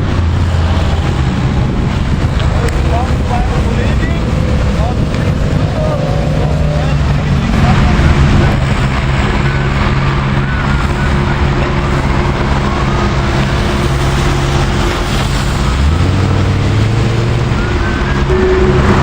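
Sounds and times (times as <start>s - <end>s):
deeper engine note: 0.0s - 19.0s
sports car engine idling: 0.0s - 19.0s.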